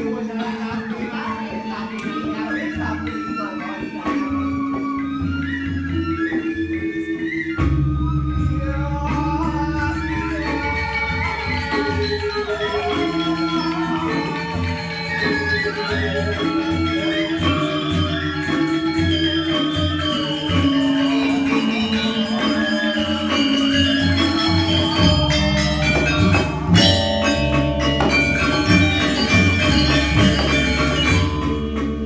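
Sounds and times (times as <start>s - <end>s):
metallophone tones: 0.0s - 32.0s
drum strokes: 6.0s - 32.0s.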